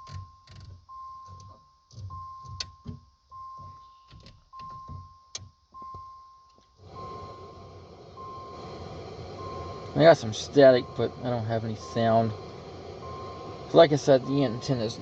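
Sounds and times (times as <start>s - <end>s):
high electronic warning tone: 0.0s - 15.0s.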